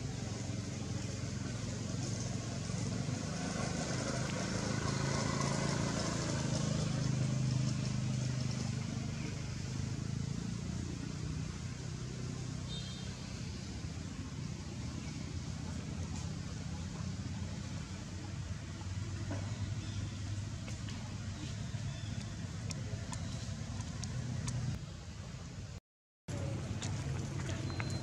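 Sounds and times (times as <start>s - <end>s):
vehicle engine passing: 0.0s - 24.8s
outdoor background noise: 0.0s - 28.0s.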